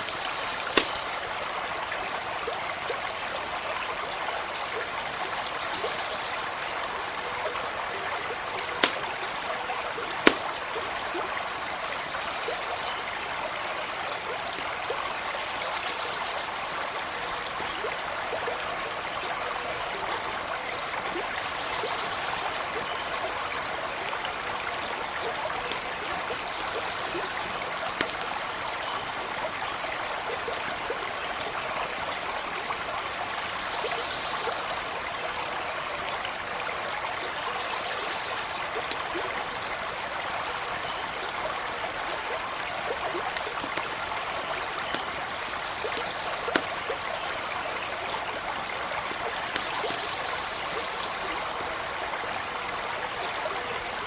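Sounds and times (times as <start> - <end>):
campfire pops and crackles: 0.0 - 54.0
stream rushing and trickling: 0.0 - 54.0.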